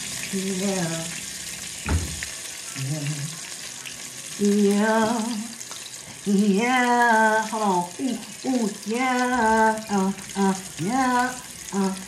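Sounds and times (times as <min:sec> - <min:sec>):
food sizzling in frying oil: 0:00.0 - 0:12.0.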